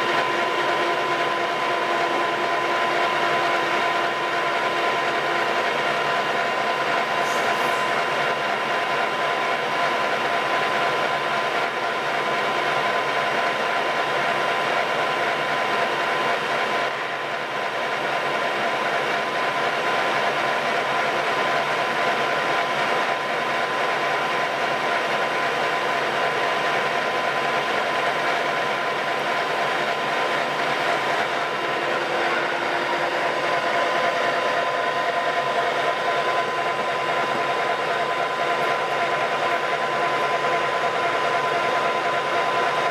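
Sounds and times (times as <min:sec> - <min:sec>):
lathe gear whine: 0:00.0 - 0:42.9.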